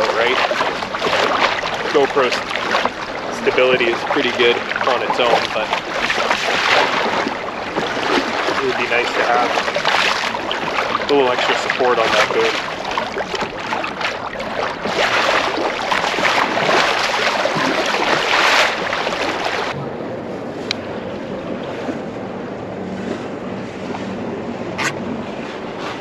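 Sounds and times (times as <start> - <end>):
water splashing against hull: 0.0 - 26.0
wind buffeting microphone: 0.0 - 26.0.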